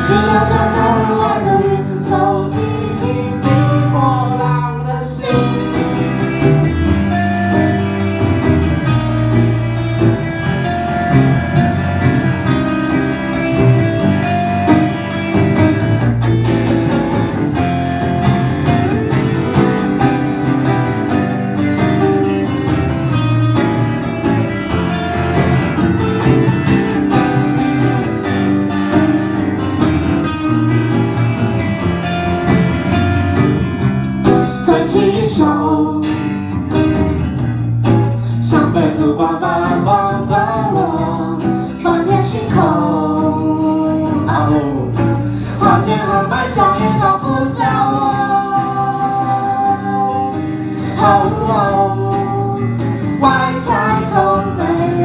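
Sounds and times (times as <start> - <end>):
live band playing instrumental: 0.0 - 55.0.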